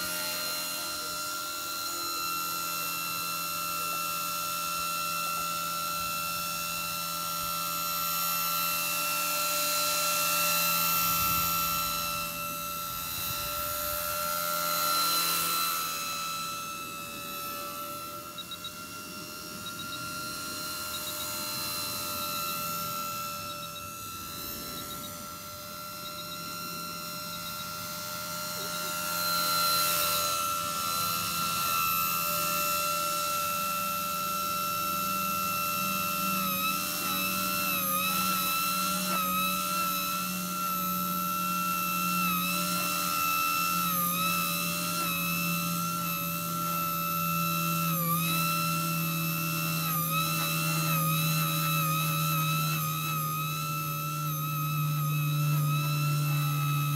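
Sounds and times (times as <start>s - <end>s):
rc helicopter motor whine: 0.0s - 56.9s
rotor hum: 0.0s - 56.9s.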